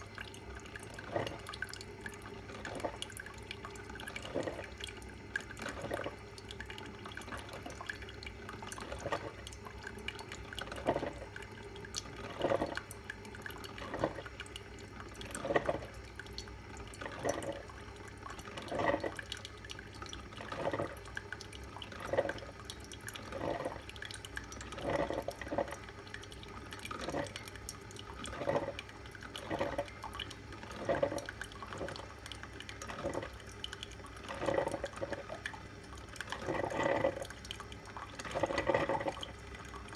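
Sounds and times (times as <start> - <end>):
water spurting and dripping: 0.0 - 39.9.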